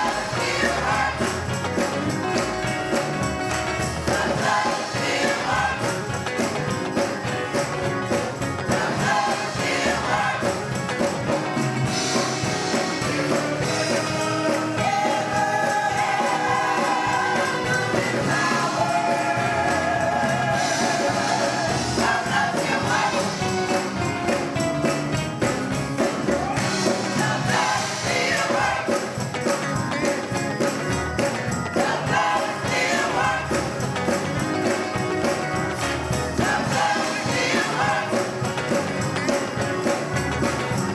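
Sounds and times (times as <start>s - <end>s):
gospel choir singing: 0.0s - 40.9s
instrumental accompaniment: 0.0s - 40.9s
tambourine jingling: 0.0s - 40.9s.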